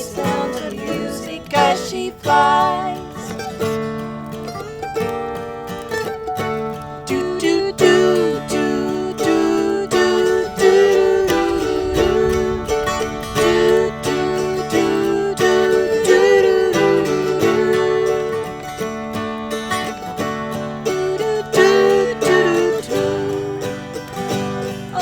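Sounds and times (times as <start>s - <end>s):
plucked acoustic string instrument: 0.0s - 25.0s.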